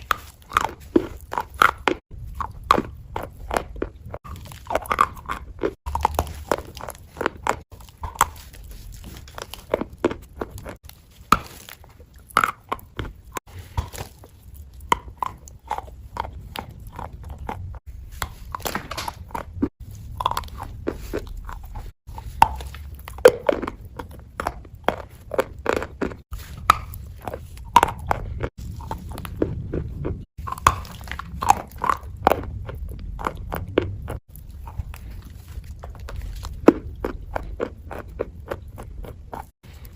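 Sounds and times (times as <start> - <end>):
crunchy prop being bitten: 0.0 - 35.2.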